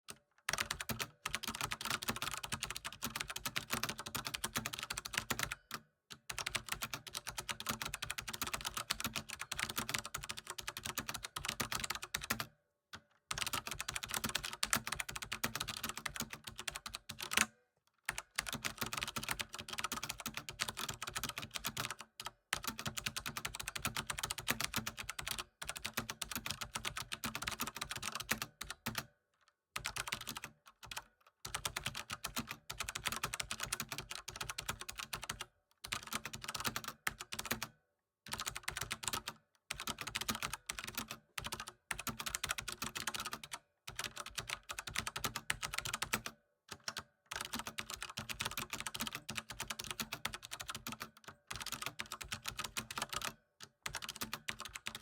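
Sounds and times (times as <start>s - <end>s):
fast typing on a keyboard: 0.1s - 12.5s, 13.3s - 17.5s, 18.1s - 29.2s, 29.8s - 55.0s.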